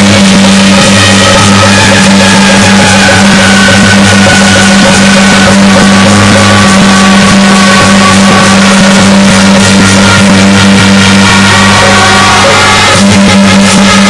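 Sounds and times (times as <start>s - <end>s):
distorted temple ensemble music: 0.0s - 14.0s
held wind instrument tones: 0.0s - 14.0s.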